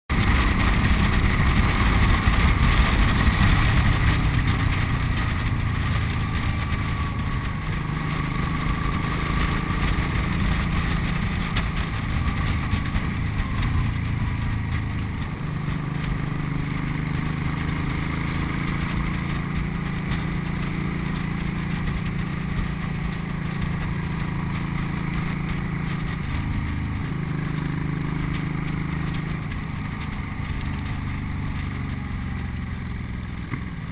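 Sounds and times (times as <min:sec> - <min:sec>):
motorcycle engine riding: 0:00.1 - 0:33.9.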